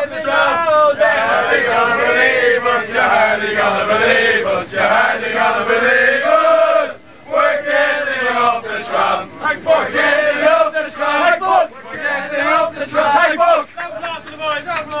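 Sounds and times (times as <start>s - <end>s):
crowd singing football chant: 0.0s - 15.0s.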